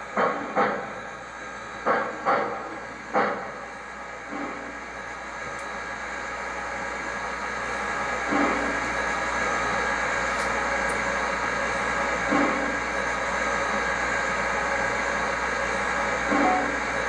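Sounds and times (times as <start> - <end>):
model steam locomotive sounds: 1.8 - 17.0.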